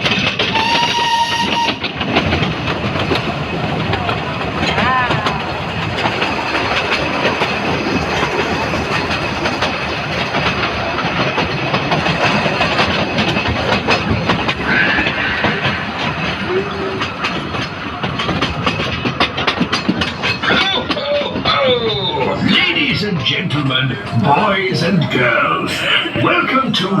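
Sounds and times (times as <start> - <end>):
train wheels clattering on rails: 0.0 - 27.0.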